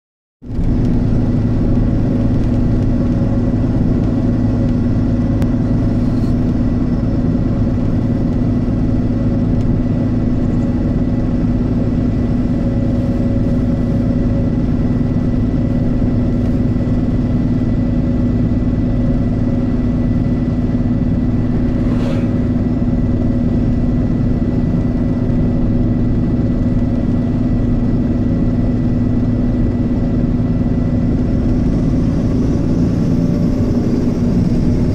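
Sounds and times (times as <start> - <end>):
engine hum: 0.4 - 34.9
tyre and road noise: 0.4 - 34.9.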